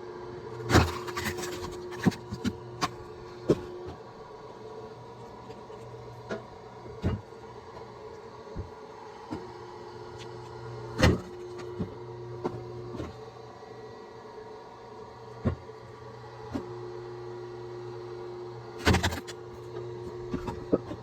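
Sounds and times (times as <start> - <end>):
small motor hum: 0.0 - 21.0.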